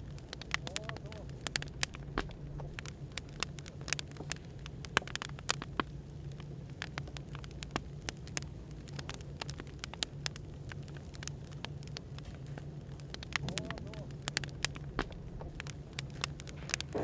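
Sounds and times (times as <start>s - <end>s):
burning firewood crackling: 0.0s - 17.0s
low background hum: 0.0s - 17.0s.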